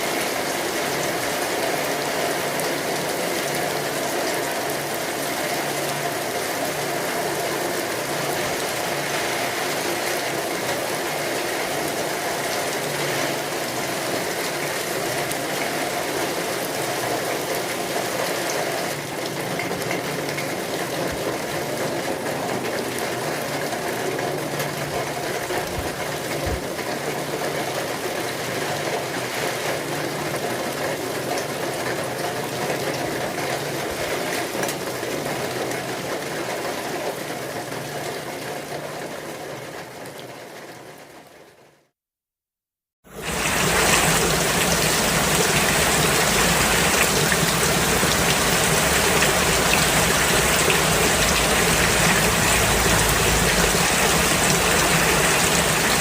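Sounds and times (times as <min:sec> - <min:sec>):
steady rain pattering: 0:00.0 - 0:41.9, 0:43.1 - 0:56.0.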